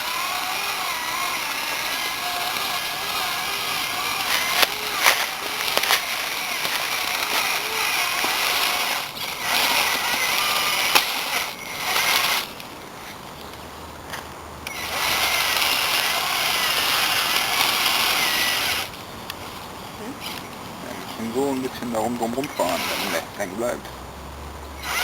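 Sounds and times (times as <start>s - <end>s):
electric toy truck motor whining: 0.0s - 23.8s, 24.7s - 25.0s.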